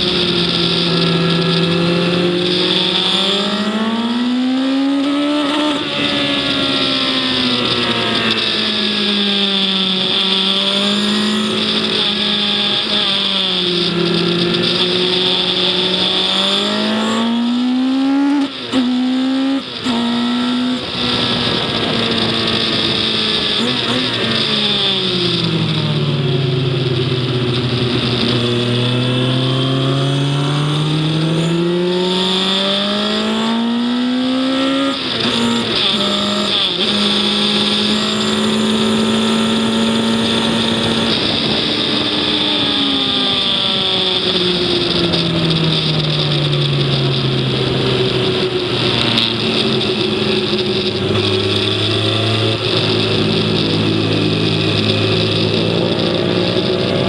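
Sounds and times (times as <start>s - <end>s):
racing engine accelerating: 0.0s - 57.0s
wind and road hiss: 0.0s - 57.0s.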